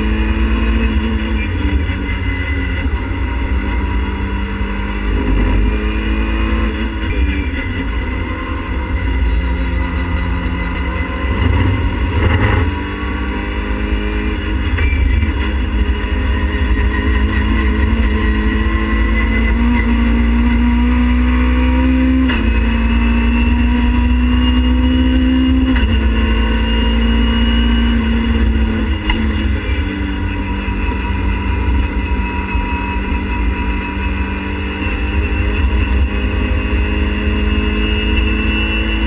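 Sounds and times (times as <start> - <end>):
race car engine accelerating: 0.0 - 39.0.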